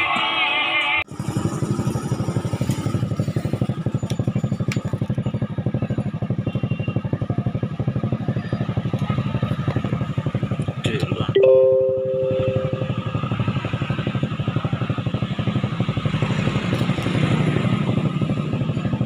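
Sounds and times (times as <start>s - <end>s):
small engine idling: 1.1s - 19.0s.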